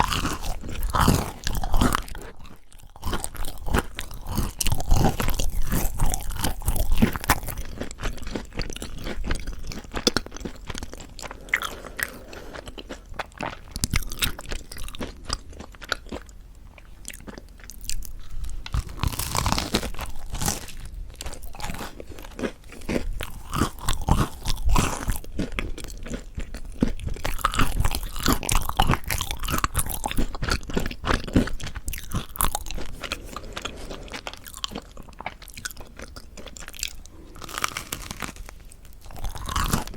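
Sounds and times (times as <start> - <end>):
crunchy bread chewing: 0.0 - 39.9.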